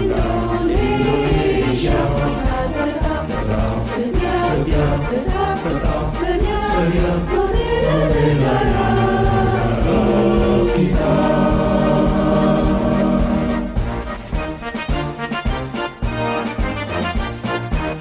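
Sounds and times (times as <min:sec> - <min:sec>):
choir singing: 0:00.0 - 0:14.8.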